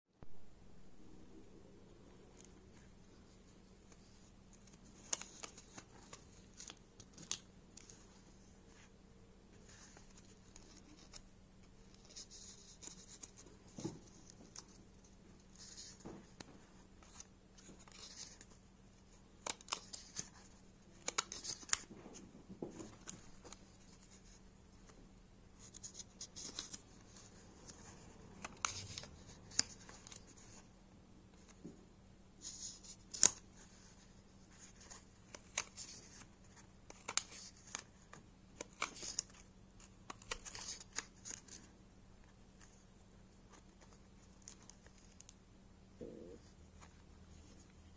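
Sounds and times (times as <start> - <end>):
faint steady hum: 0.2 - 47.9
paper pages rustling: 2.3 - 8.9, 9.5 - 25.0, 25.6 - 30.7, 32.4 - 45.4.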